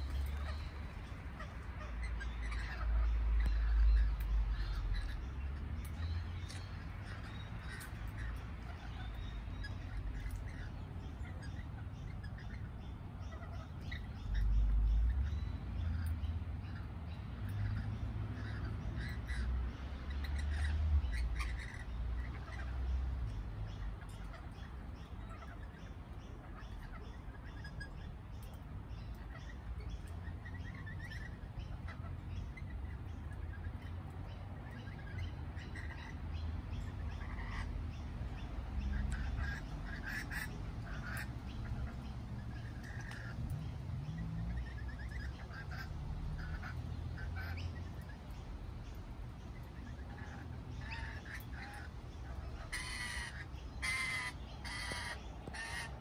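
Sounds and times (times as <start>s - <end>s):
lorikeets screeching: 0.0s - 56.0s.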